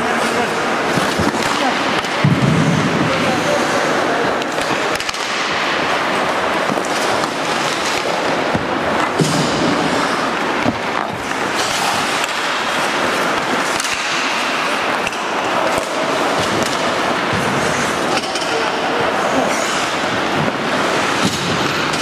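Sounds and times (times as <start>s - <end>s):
hockey sticks and puck clacking: 0.0s - 22.0s
skates scraping ice: 0.0s - 22.0s.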